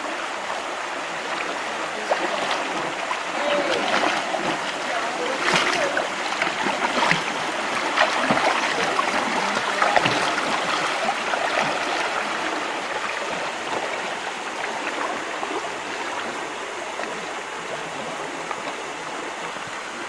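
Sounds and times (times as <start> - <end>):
rushing gurgling water: 0.0 - 20.0
small water splashes: 0.0 - 20.0.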